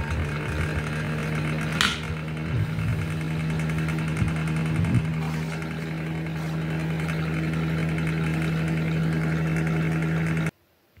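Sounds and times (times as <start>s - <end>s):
fan heater running: 0.0s - 10.6s.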